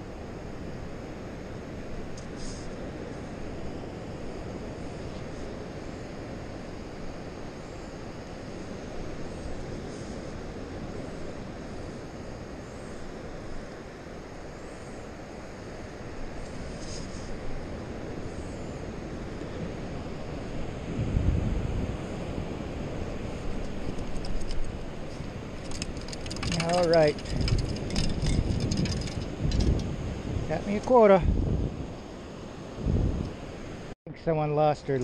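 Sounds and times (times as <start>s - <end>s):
wind: 0.0s - 35.0s.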